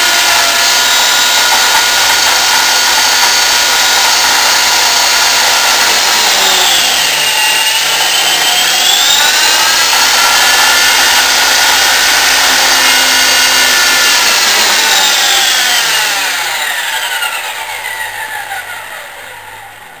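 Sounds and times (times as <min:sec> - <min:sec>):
model helicopter motor whine: 0:00.0 - 0:20.0.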